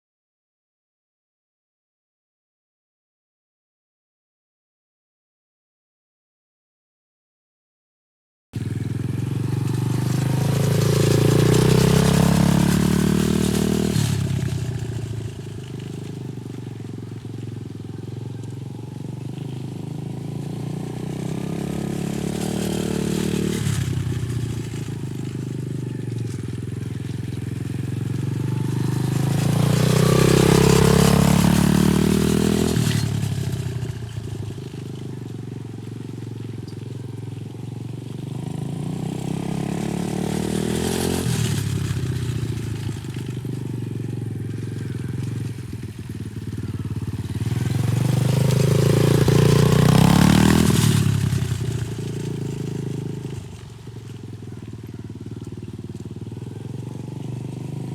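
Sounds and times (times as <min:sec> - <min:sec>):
dirt bike engine running: 0:08.6 - 0:57.9.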